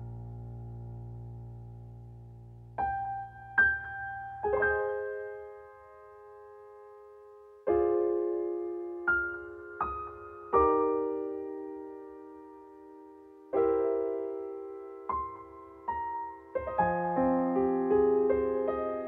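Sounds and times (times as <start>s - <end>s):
electric piano music: 0.0s - 19.0s.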